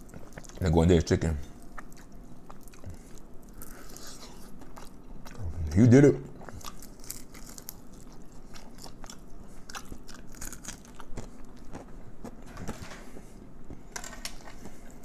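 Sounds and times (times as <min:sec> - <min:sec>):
chewing crispy fried chicken: 0:00.0 - 0:12.5.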